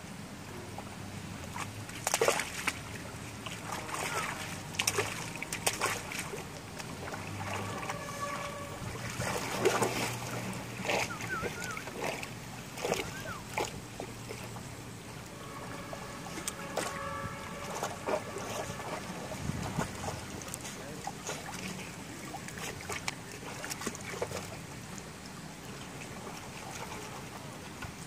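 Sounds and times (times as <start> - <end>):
steady low hum: 0.0 - 27.8
water splashing as dogs swim: 0.7 - 28.0.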